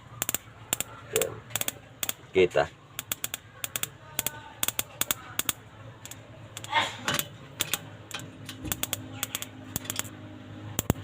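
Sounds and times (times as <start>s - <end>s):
ignition spark clicks: 0.2s - 2.2s, 3.0s - 10.1s, 10.8s - 11.0s.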